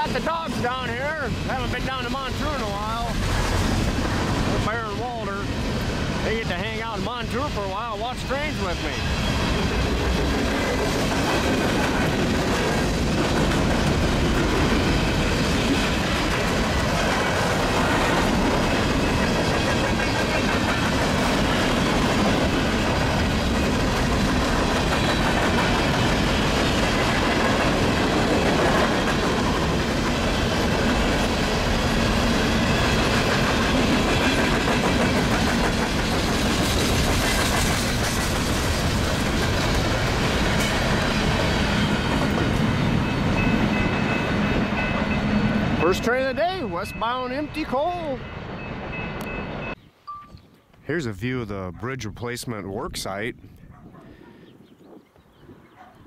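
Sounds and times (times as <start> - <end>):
train wheels rolling on rails: 0.0 - 49.8.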